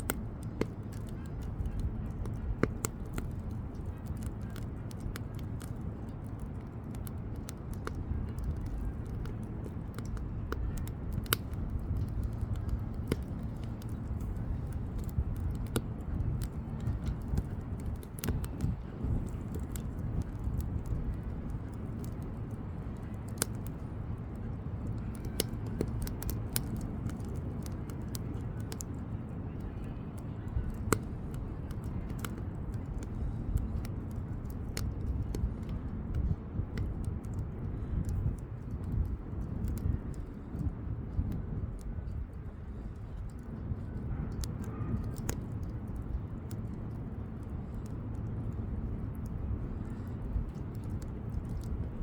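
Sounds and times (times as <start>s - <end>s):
bonfire flames rushing: 0.0s - 52.0s
firewood crackling and popping: 0.0s - 52.0s.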